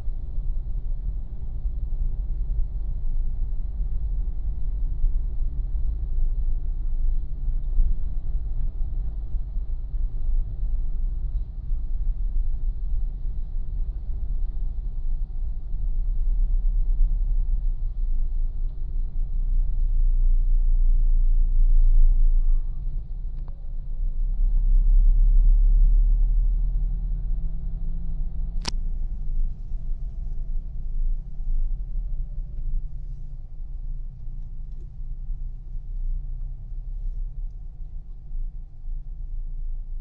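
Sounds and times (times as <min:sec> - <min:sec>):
road vehicle rumble: 0:00.0 - 0:40.0.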